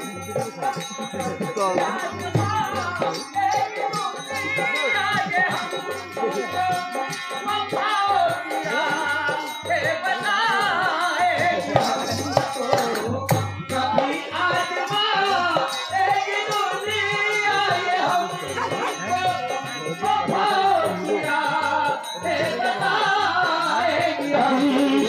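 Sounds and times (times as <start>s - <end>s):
drum beat: 0.0s - 25.0s
harmonium: 0.0s - 25.0s
person singing: 0.0s - 25.0s.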